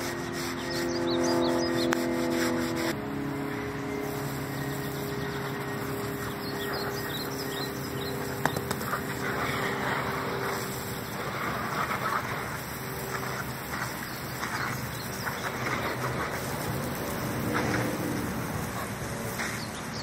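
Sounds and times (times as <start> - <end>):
low hum: 0.0 - 19.5
birds chirping: 0.0 - 20.0
garden hose spraying water: 0.0 - 20.0.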